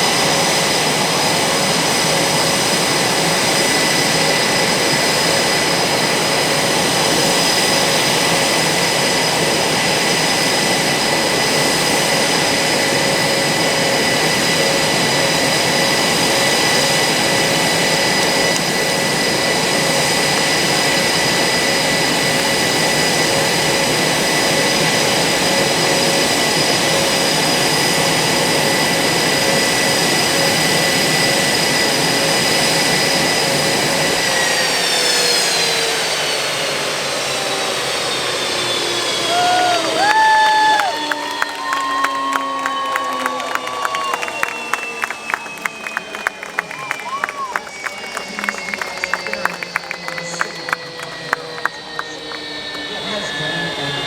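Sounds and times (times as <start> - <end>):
high engine whine: 0.0 - 54.0
jet engines running: 0.0 - 54.0.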